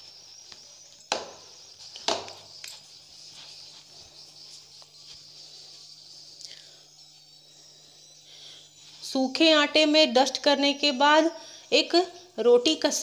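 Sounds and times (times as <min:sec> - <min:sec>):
faint steady high hiss: 0:00.0 - 0:13.0.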